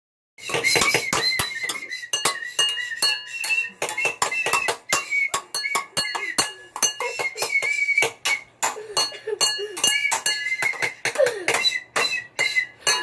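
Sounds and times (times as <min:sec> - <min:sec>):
hard objects clinking: 0:00.4 - 0:13.0.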